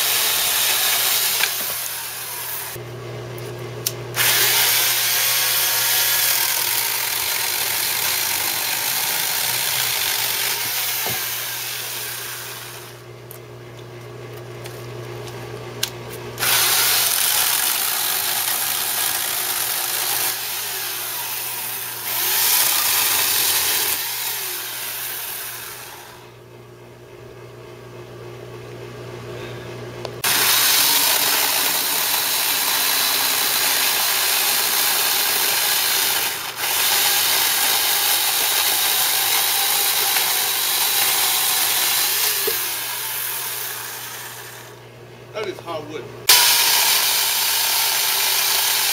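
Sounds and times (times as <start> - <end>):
electric chainsaw cutting wood: 0.0 - 2.8, 3.8 - 13.0, 16.4 - 26.4, 30.2 - 44.8, 45.7 - 48.9.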